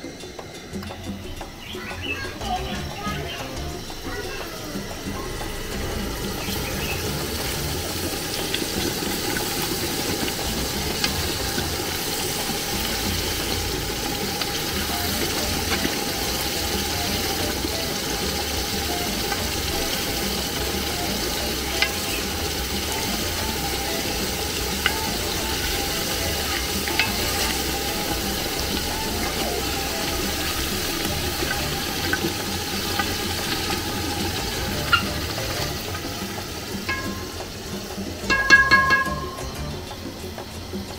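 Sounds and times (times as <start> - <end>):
coconut mixture sizzling in pot: 0.0 - 40.9.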